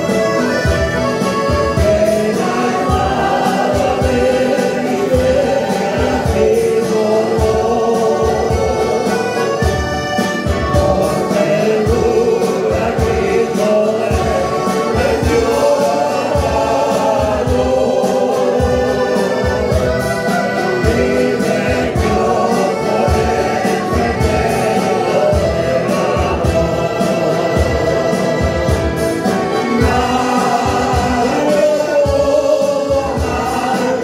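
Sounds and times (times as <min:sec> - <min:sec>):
acoustic guitar: 0:00.0 - 0:34.0
choir singing a hymn: 0:00.0 - 0:34.0
piano accordion: 0:00.0 - 0:34.0.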